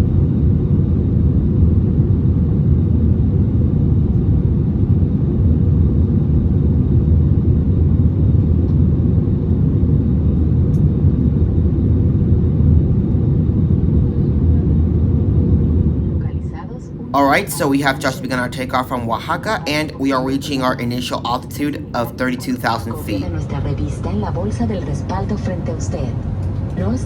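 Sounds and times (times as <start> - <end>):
aircraft cabin engine rumble: 0.0 - 27.0.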